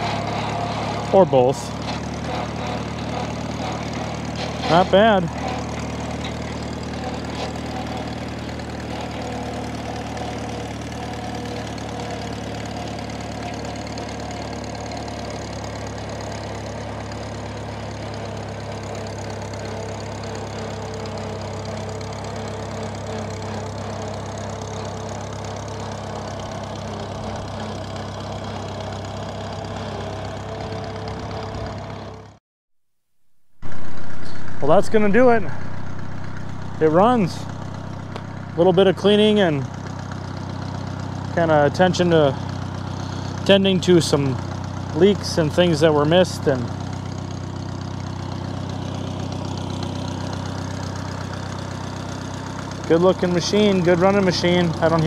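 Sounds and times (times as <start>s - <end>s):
tractor engine idling: 0.0s - 32.4s, 33.6s - 55.0s.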